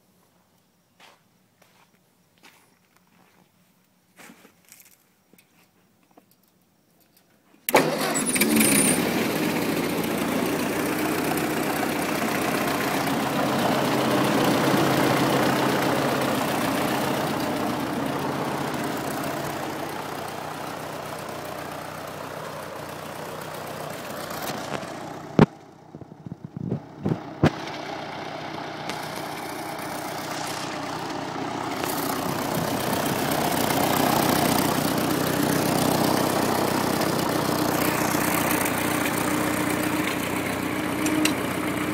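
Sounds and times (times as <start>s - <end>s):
tractor engine running: 7.7s - 41.9s.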